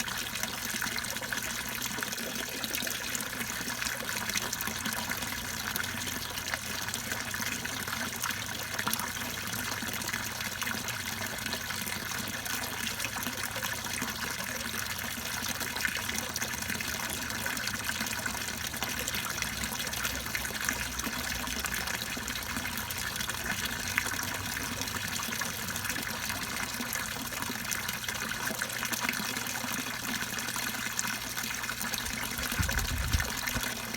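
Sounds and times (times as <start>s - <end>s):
water splashing into pond: 0.0s - 33.9s.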